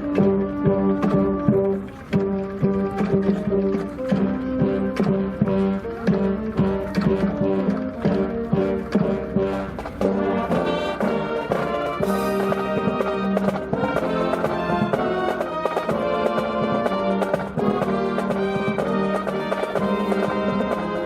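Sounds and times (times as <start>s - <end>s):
brass wind band playing: 0.0s - 21.0s
percussion strokes: 0.0s - 21.0s.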